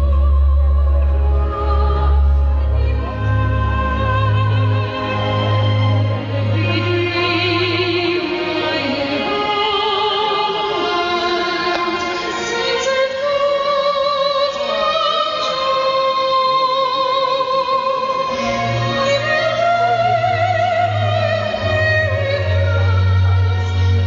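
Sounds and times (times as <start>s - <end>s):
opera singer with vibrato: 0.0s - 24.0s.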